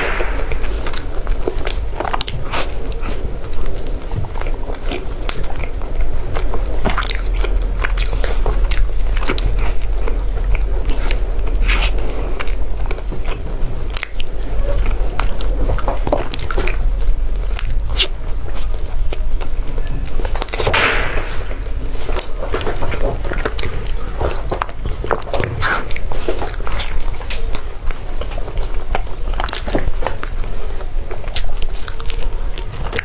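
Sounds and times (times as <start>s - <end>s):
biting and chewing bread: 0.0s - 33.0s.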